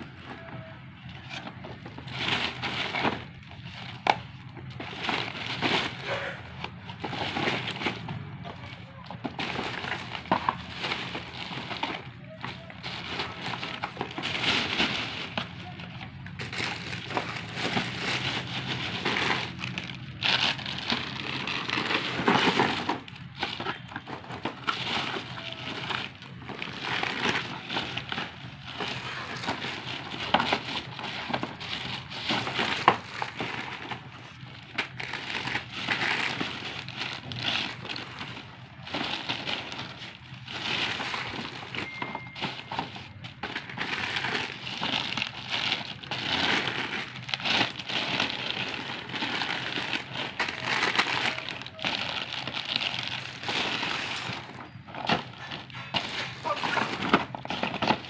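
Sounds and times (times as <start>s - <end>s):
plastic bag crinkling: 0.0s - 58.0s.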